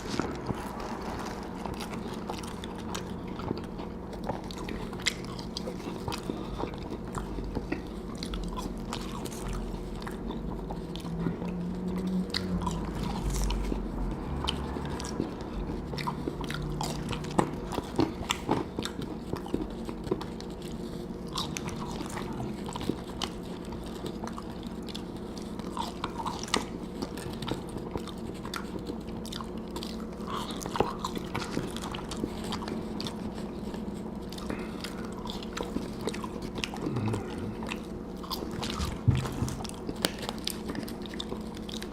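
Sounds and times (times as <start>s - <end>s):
biting and wet chewing: 0.0s - 41.9s
food crunching: 0.0s - 41.9s
steady low hum: 0.0s - 41.9s.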